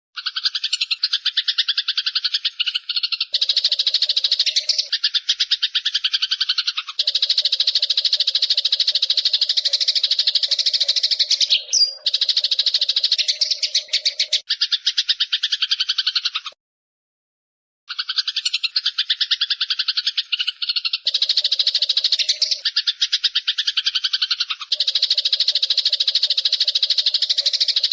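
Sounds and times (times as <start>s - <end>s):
sparrows chattering: 0.2s - 16.6s, 17.9s - 27.9s.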